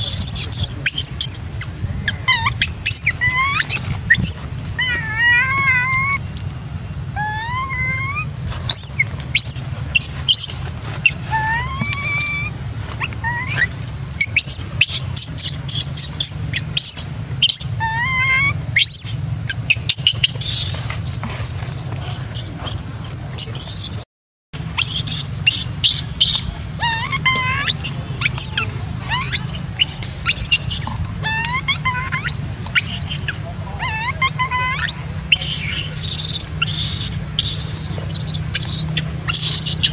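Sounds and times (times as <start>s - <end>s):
infant monkey crying: 0.0s - 6.3s, 7.1s - 24.0s, 24.7s - 39.9s
steady low hum: 0.0s - 24.0s, 24.6s - 39.9s.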